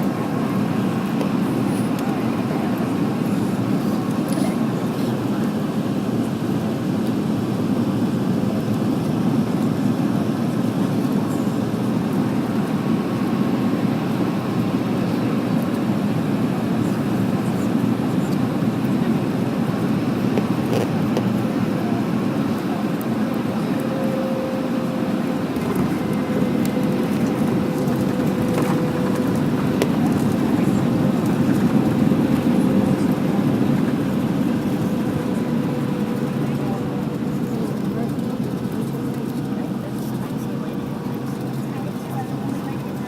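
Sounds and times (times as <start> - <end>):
airplane cabin engine rush: 0.0 - 43.0.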